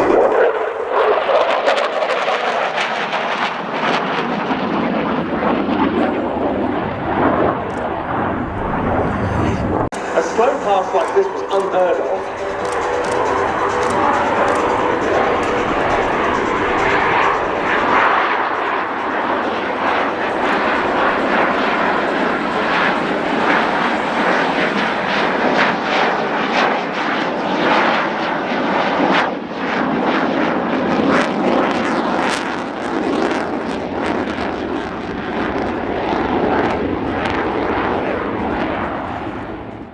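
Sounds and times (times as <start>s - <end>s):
aircraft engine roar: 0.0s - 39.9s.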